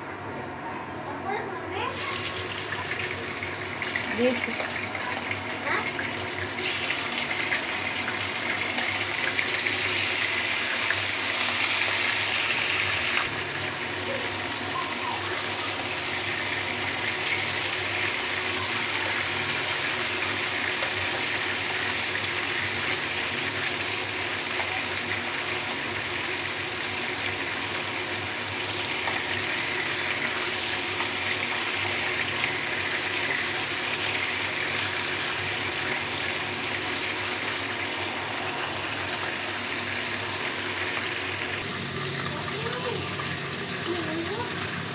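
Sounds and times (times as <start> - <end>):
chicken sizzling in hot oil: 1.8 - 44.9.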